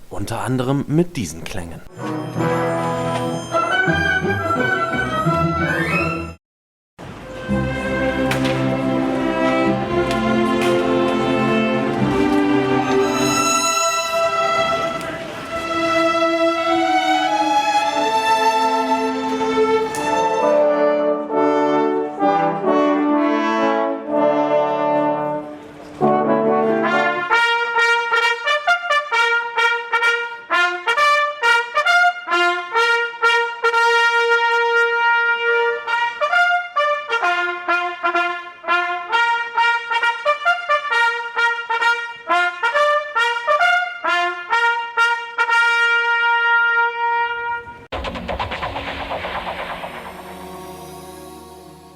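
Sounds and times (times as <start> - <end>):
orchestral music with trumpets: 1.9 - 6.4, 7.0 - 51.9.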